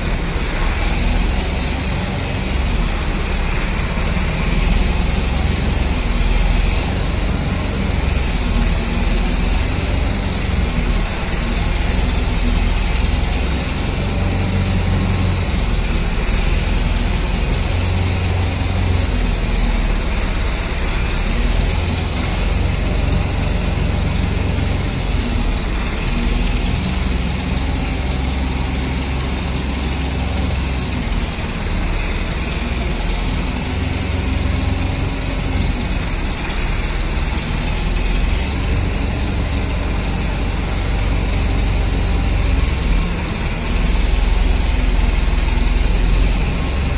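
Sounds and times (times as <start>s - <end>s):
heavy engine rumbling: 0.0s - 46.9s.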